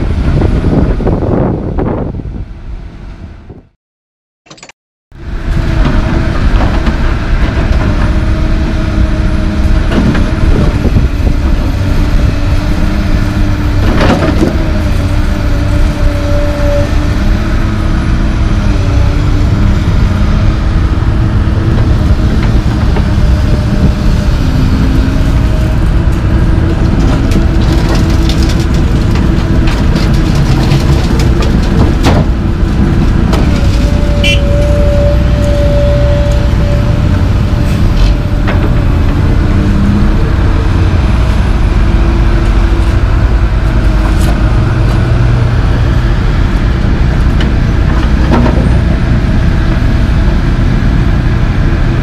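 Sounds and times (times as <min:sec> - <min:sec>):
excavator diesel engine running: 0:04.5 - 0:52.0.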